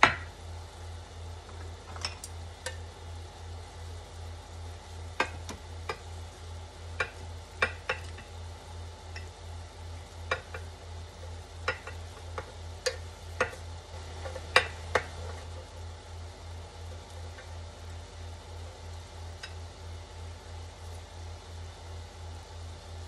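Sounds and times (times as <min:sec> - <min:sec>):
faint sizzle: 0:00.0 - 0:23.0.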